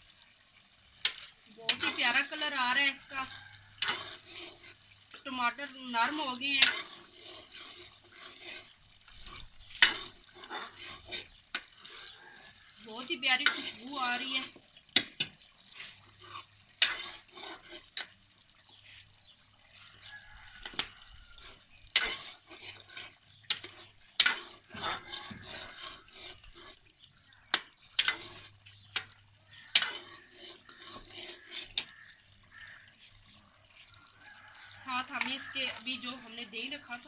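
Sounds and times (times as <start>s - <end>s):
food frying: 0.0s - 37.0s
spoon scraping a metal pan: 1.0s - 18.2s, 19.7s - 34.0s, 34.6s - 37.0s.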